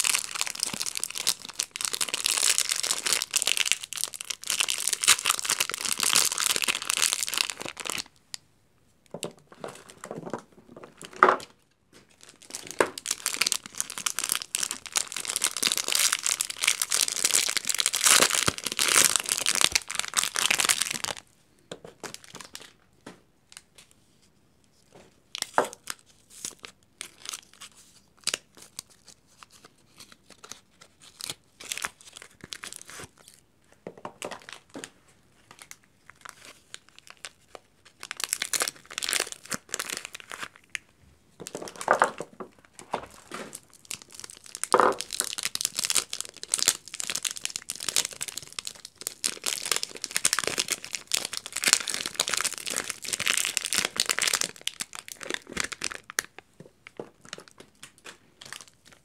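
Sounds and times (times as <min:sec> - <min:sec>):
wrapper tearing and crinkling: 0:00.0 - 0:08.2, 0:12.1 - 0:21.2, 0:25.3 - 0:33.4, 0:35.4 - 0:40.8, 0:41.4 - 0:59.0.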